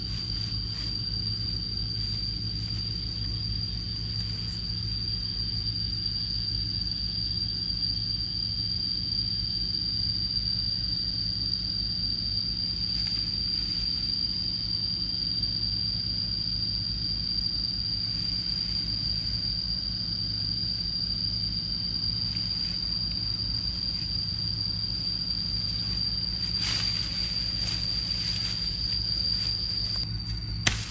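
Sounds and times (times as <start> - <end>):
high-pitched insect drone: 0.0 - 30.9.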